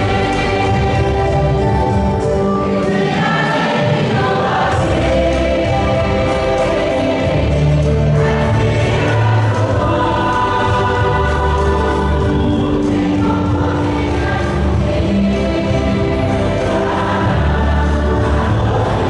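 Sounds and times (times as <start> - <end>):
congregation singing a hymn: 0.0 - 19.0.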